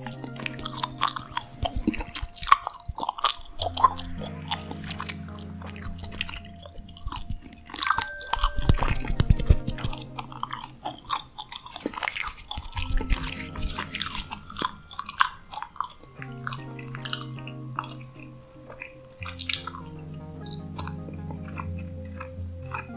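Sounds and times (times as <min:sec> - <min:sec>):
ambient background music: 0:00.0 - 0:22.9
gum chewing mouth smacks: 0:00.0 - 0:22.9.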